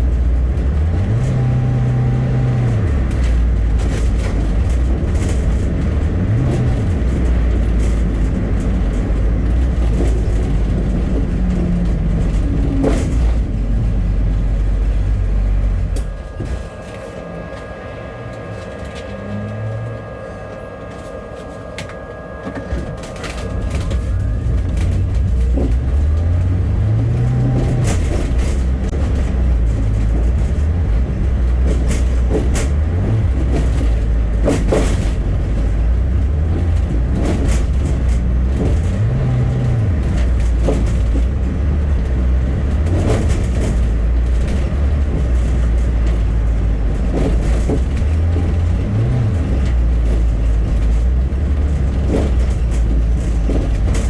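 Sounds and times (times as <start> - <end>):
diesel bus engine: 0.0 - 54.0.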